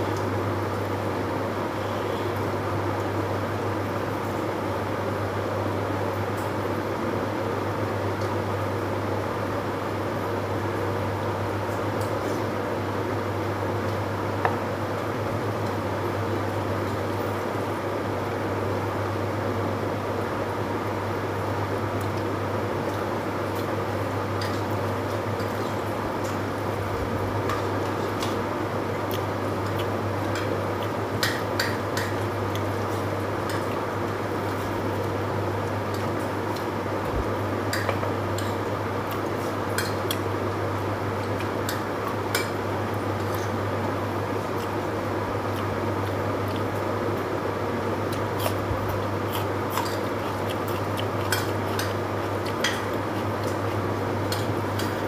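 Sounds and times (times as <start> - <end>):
low hum and hiss: 0.0 - 55.0.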